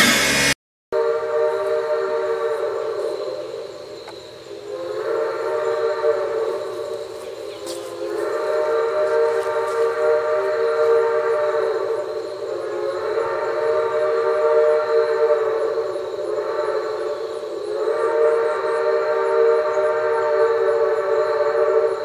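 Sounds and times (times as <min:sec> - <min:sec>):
steam whistle blasts: 0:00.0 - 0:03.5, 0:04.4 - 0:22.0.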